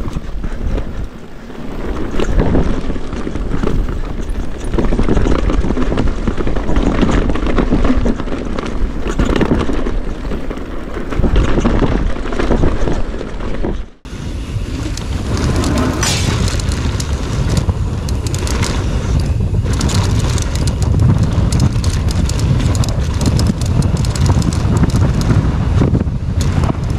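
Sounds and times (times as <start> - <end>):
bike clattering over bumps: 0.0 - 14.0, 14.8 - 26.9
tyres rolling on dirt trail: 0.0 - 26.9
wind buffeting microphone: 0.0 - 26.9.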